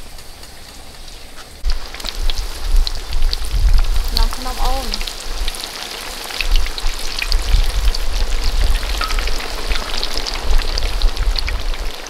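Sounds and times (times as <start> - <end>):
chicken wings deep-frying in oil: 0.0 - 12.0.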